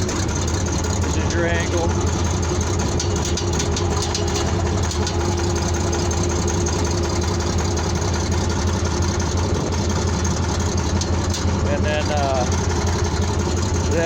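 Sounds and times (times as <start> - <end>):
bulldozer engine idling: 0.0 - 14.0.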